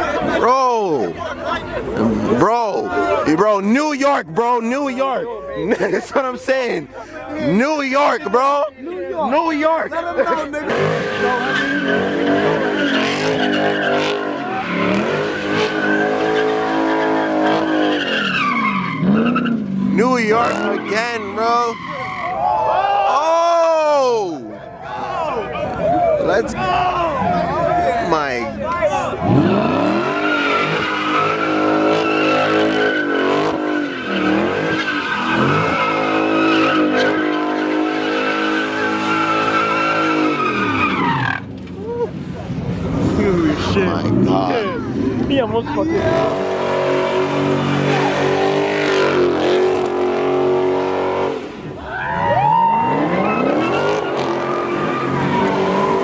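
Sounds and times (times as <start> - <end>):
car engine revving: 0.0 - 5.1, 10.4 - 22.2, 26.3 - 51.8, 52.8 - 56.0
tires squealing: 0.0 - 8.7, 9.3 - 56.0.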